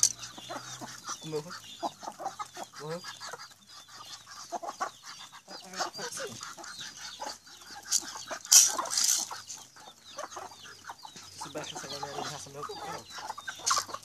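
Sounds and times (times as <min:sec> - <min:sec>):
chickens clucking: 0:00.0 - 0:14.0
chicks peeping: 0:00.0 - 0:14.0.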